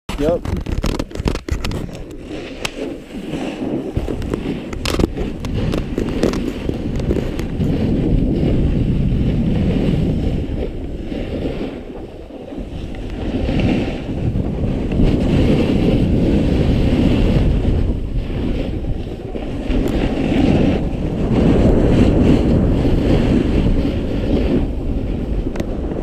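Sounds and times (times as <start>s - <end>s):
snowboard scraping over snow: 0.1s - 26.0s
wind rushing over microphone: 0.1s - 26.0s.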